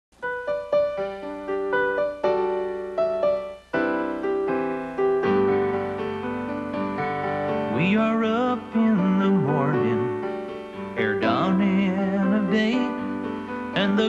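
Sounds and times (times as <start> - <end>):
piano playing: 0.1 - 14.0.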